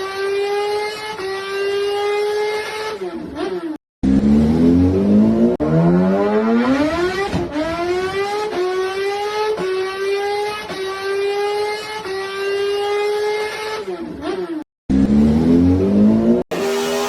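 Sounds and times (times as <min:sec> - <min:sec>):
motorcycle engine revving through gears: 0:00.0 - 0:17.0.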